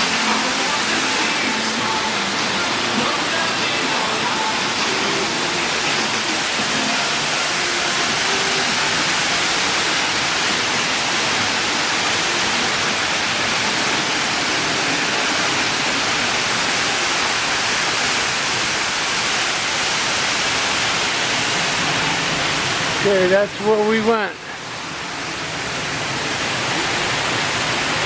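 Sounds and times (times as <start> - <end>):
falling water rushing: 0.0 - 28.0.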